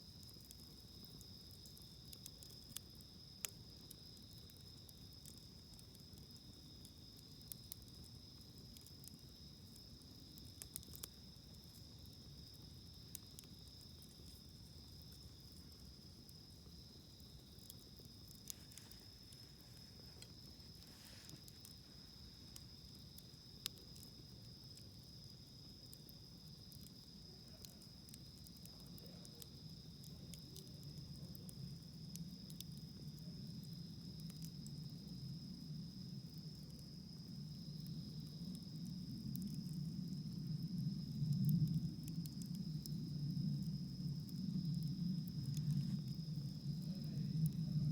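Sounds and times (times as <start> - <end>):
campfire crackling and popping: 0.0 - 47.9
insects trilling: 0.0 - 47.9.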